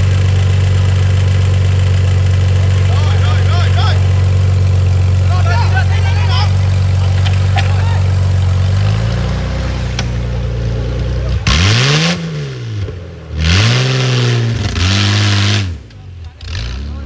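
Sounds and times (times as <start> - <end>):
harsh rushing noise: 0.0 - 16.7
off-road engine idling and revving: 0.0 - 17.0.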